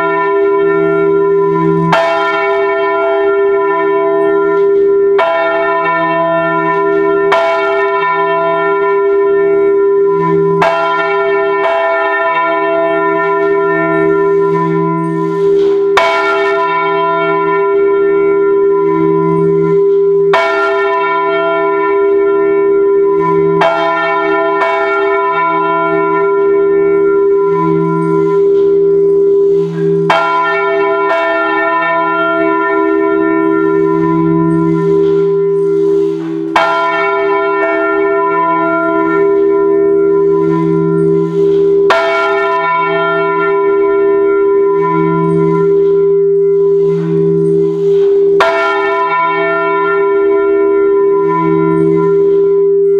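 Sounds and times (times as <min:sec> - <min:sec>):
church bells pealing: 0:00.0 - 0:52.9.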